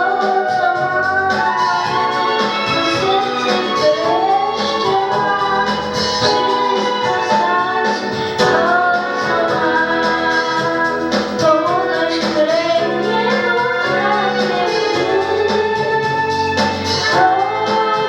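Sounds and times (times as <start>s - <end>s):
instrumental accompaniment: 0.0s - 18.0s
young woman singing: 0.0s - 18.0s.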